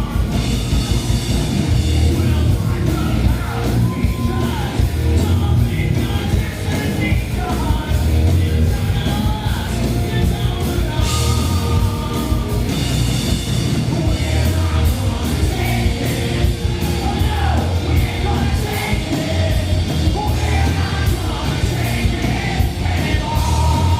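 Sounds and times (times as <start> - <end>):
drums and bass pulsing: 0.0 - 23.9
lead singer: 0.0 - 23.9
live rock band: 0.0 - 23.9.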